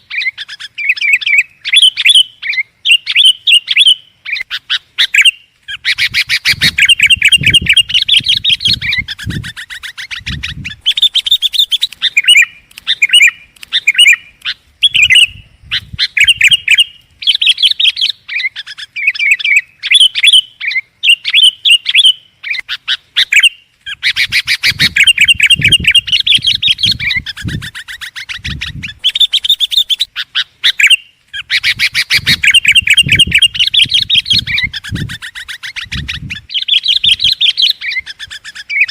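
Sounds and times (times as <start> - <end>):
bulbul chattering: 0.0 - 38.9.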